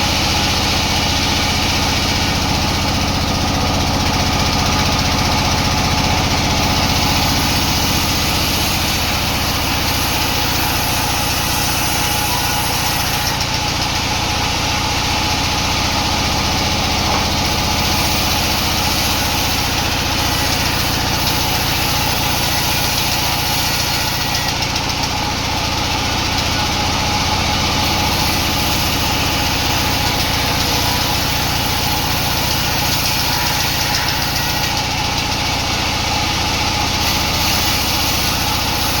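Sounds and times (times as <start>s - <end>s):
sawmill machinery drone: 0.0s - 39.0s.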